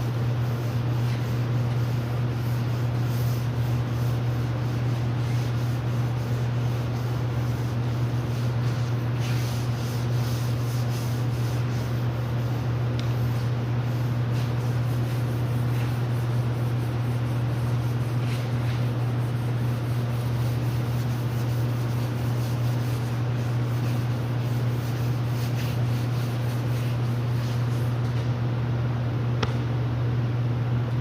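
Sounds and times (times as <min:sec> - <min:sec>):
sandpaper rubbing on metal: 0:00.0 - 0:28.0.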